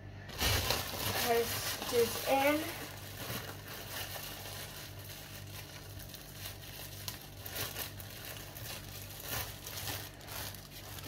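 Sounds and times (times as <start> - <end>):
low steady hum: 0.0 - 11.0
plastic packaging crinkling: 0.3 - 11.0.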